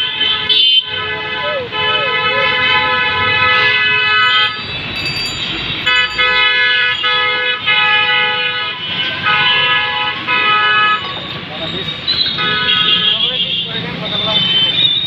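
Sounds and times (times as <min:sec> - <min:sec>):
vehicle horn honking: 0:00.0 - 0:04.7, 0:05.8 - 0:11.1, 0:12.1 - 0:14.8
street noise: 0:00.0 - 0:15.0.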